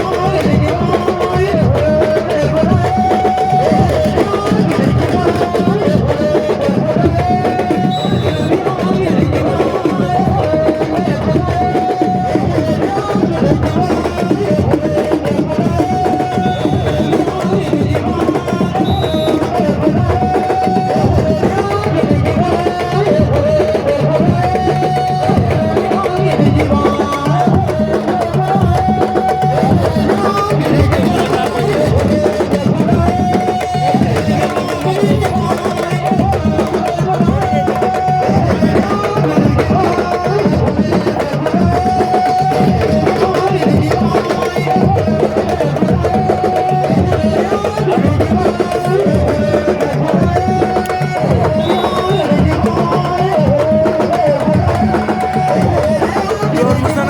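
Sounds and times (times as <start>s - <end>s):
drum ensemble fast rhythm: 0.0s - 57.0s.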